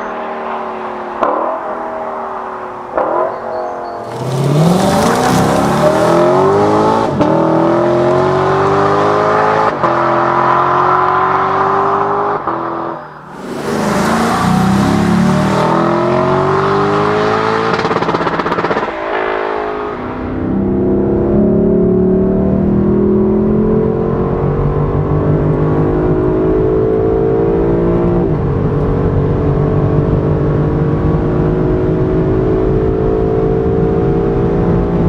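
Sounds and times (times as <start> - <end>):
car exhaust under hard acceleration: 1.2 - 35.0.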